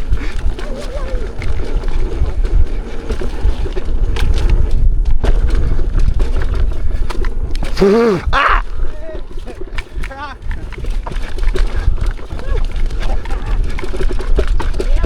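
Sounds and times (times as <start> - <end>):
bike knocks and rattles: 0.0 - 7.8, 8.4 - 15.0
wind rumbling on microphone: 0.0 - 15.0.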